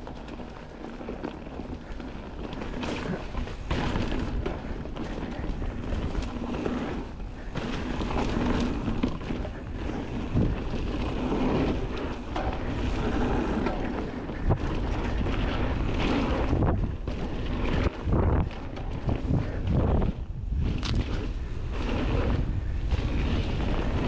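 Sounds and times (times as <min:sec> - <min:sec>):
tyres rolling on dirt trail: 0:00.0 - 0:24.0
wind buffeting microphone: 0:00.0 - 0:24.0
bike knocking over bumps: 0:00.1 - 0:20.1.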